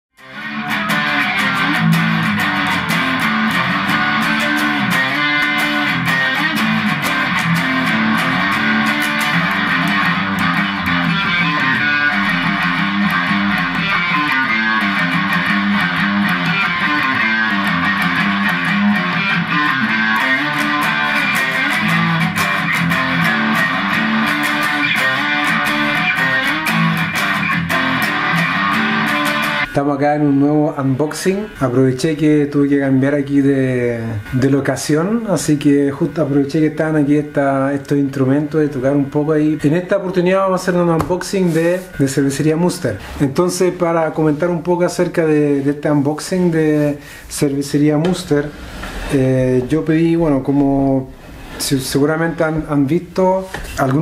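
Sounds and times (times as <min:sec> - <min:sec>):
electric guitar playing: 0:00.2 - 0:54.0.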